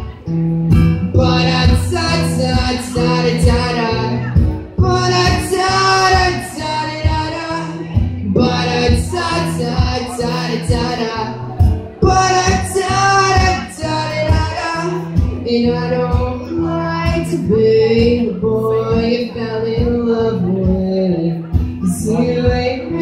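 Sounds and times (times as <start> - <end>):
person singing: 0.0 - 23.0
strummed acoustic guitar: 0.0 - 23.0.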